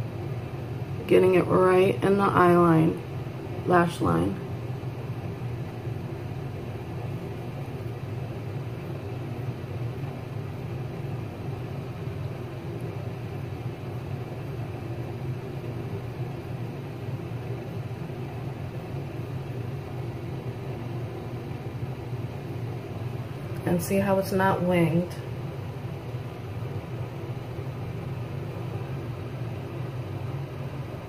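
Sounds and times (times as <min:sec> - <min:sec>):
low background hum and rumble: 0:00.0 - 0:31.0.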